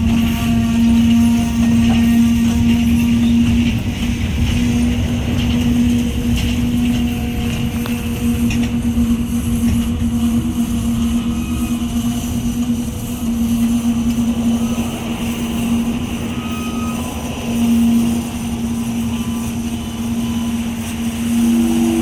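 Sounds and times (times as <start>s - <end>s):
constant low hum: 0.0s - 22.0s
train wheels rumbling on rails: 0.0s - 22.0s.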